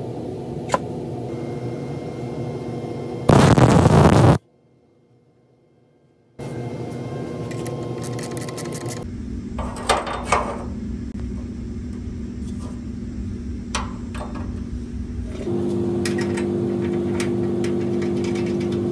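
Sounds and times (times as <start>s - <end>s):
low shop hum: 0.0s - 18.9s.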